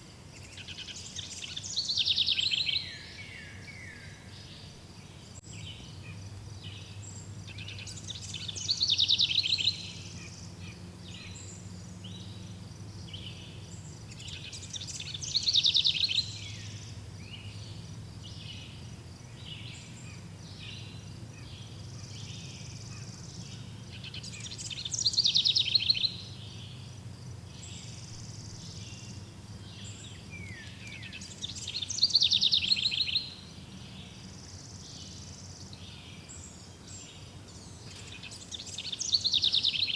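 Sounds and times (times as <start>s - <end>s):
softer bird calls: 0.0s - 39.9s.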